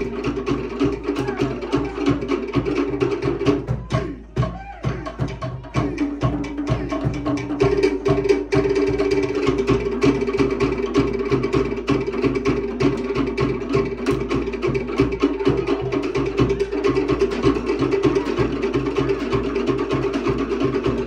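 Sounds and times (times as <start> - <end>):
log drums fast rhythm: 0.0 - 21.0.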